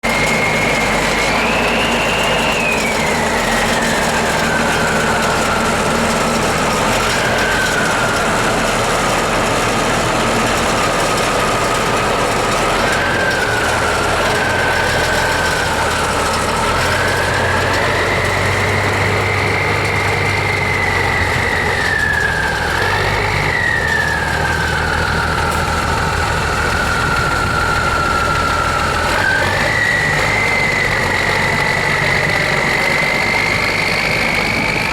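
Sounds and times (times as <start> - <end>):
truck engine running: 0.0 - 34.9
turbocharger whistle: 0.0 - 34.9.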